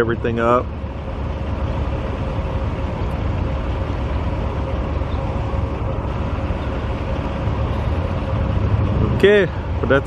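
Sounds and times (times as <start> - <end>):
motor vehicle rumble: 0.0 - 10.0.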